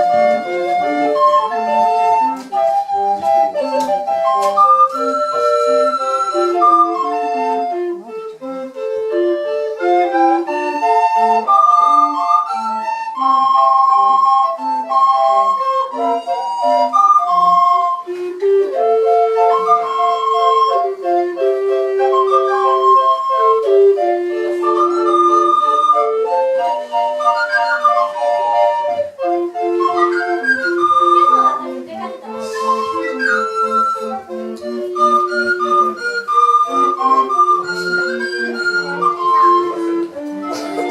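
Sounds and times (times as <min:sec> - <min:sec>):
recorder ensemble playing: 0:00.0 - 0:40.9.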